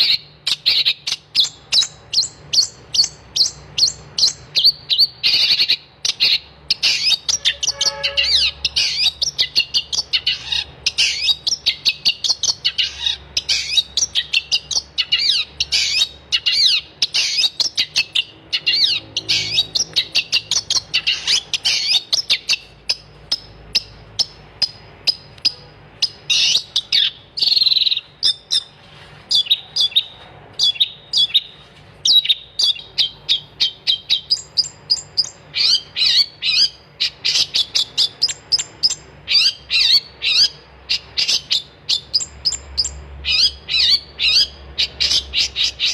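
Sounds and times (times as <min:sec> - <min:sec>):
bird singing high chirps: 0:00.0 - 0:45.9.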